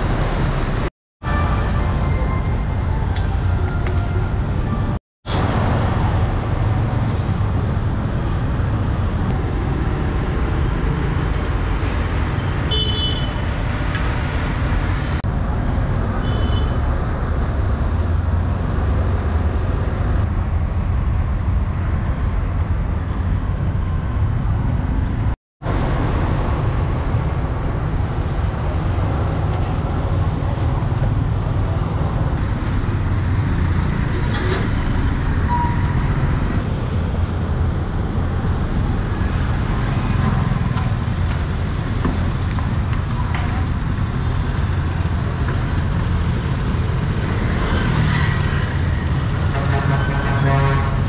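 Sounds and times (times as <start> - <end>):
street traffic rumble: 0.0 - 51.0.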